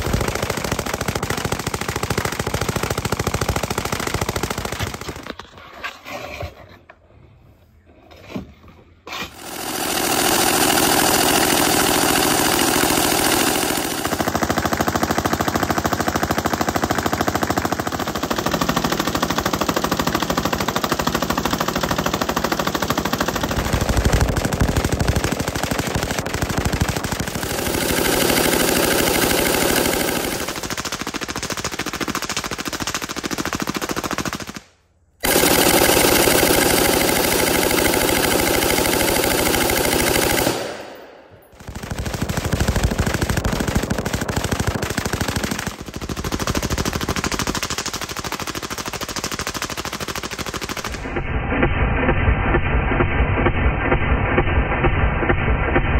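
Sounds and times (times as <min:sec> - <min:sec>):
machine gun automatic bursts: 0:00.0 - 0:05.4, 0:09.2 - 0:52.1.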